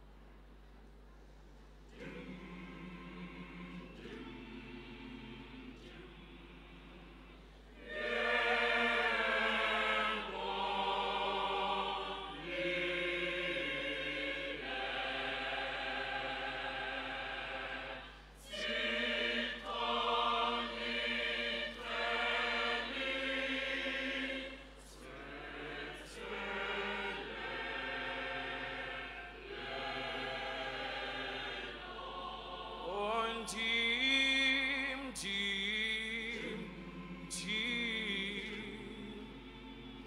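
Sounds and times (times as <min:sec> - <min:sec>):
gospel choir singing in harmony: 0:01.9 - 0:40.0.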